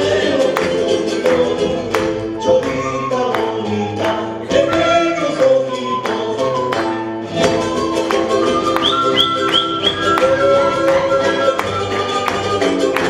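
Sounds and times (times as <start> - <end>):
strummed charango and guitar: 0.0 - 13.0
flute melody: 2.1 - 12.8.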